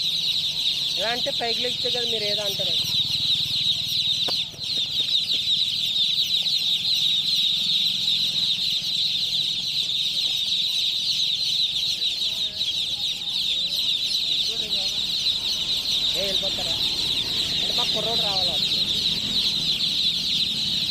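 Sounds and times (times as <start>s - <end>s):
chicks cheeping: 0.0s - 20.9s.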